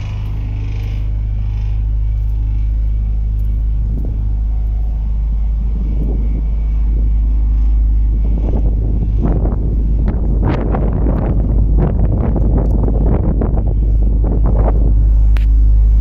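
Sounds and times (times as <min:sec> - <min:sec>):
diesel engine idling: 0:00.0 - 0:16.0
wind noise on microphone: 0:00.0 - 0:16.0.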